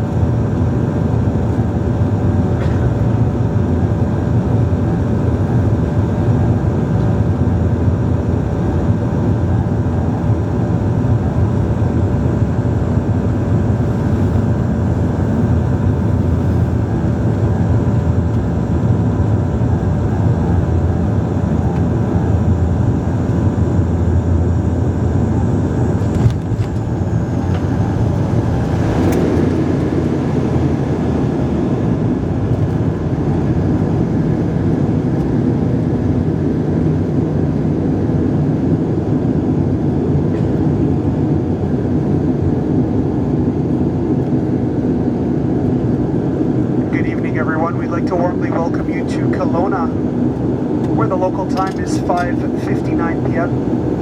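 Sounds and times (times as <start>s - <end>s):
turboprop engines droning in cabin: 0.0s - 54.0s.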